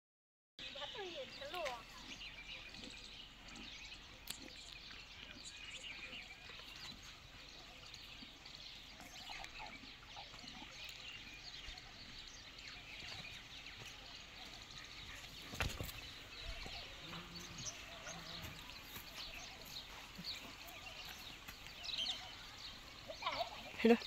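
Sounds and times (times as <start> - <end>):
small birds chirping: 0.6 - 24.0.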